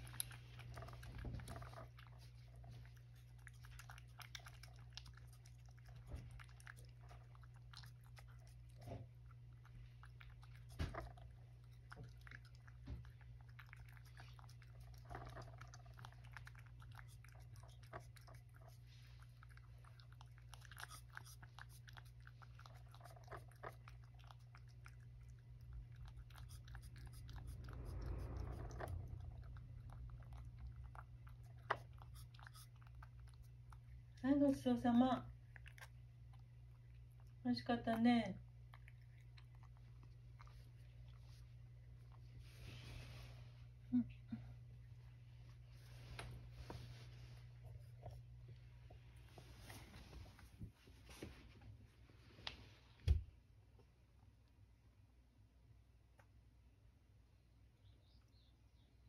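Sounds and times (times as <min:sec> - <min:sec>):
cat chewing and licking: 0:00.0 - 0:56.8
steady low hum: 0:00.0 - 0:57.8.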